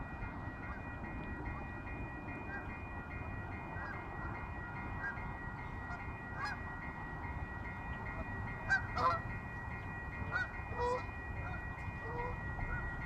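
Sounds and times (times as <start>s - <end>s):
electronic railroad crossing bell: 0.0s - 13.0s.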